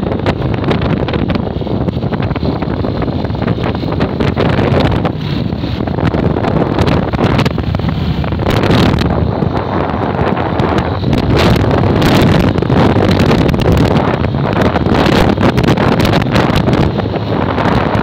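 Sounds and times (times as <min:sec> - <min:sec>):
motorcycle engine: 0:00.0 - 0:18.0
road noise: 0:00.0 - 0:18.0
wind buffeting microphone: 0:00.0 - 0:18.0.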